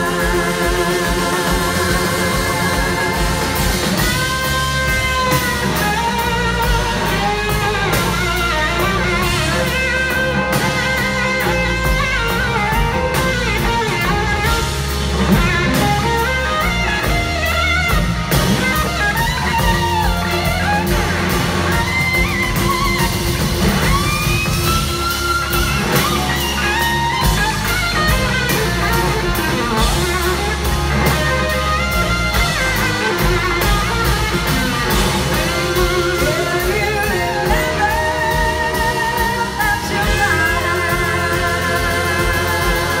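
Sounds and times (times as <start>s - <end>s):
drums: 0.0s - 43.0s
electric guitar solo: 0.0s - 43.0s.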